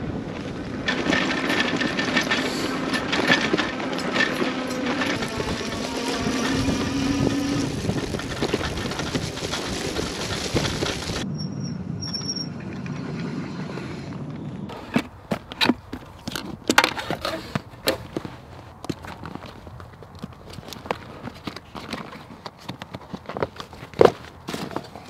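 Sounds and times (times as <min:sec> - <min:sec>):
wind and tyre noise: 0:00.0 - 0:25.0.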